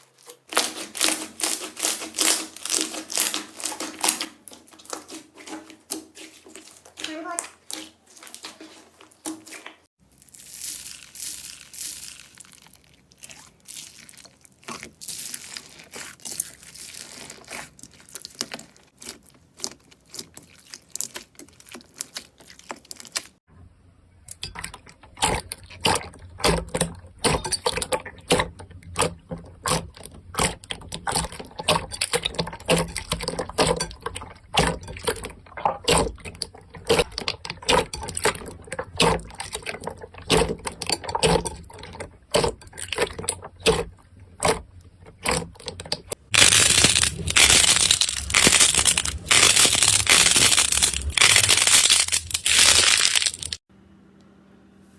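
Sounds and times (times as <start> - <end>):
slime squishing and popping: 0.5 - 5.5, 10.4 - 23.4, 24.3 - 53.6.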